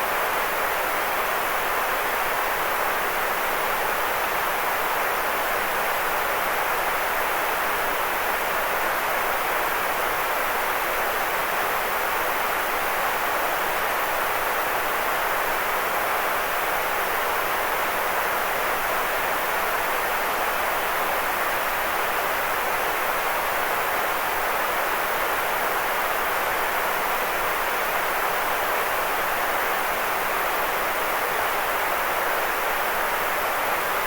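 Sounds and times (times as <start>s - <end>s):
steady white noise hiss: 0.0s - 34.0s.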